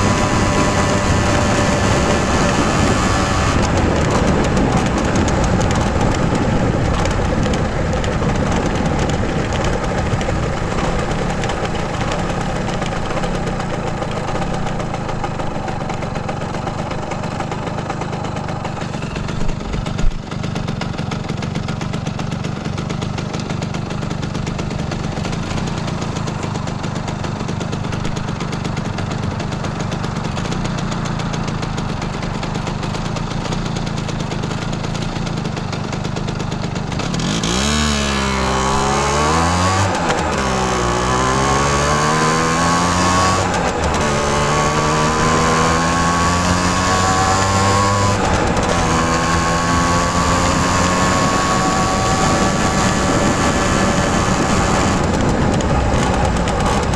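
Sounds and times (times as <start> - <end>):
moped engine idling: 0.0 - 56.9.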